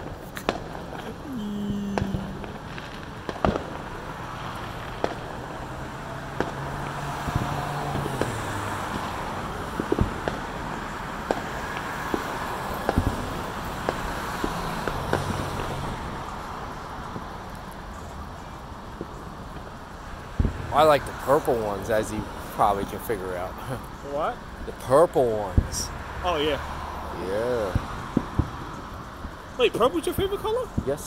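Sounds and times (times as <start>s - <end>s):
fireworks bangs: 0.0s - 31.0s
passing car traffic: 0.0s - 31.0s.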